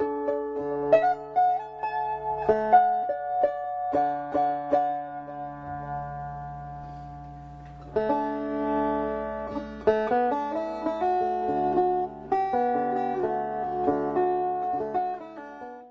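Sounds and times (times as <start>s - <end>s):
plucked string instrument melody: 0.0s - 15.9s.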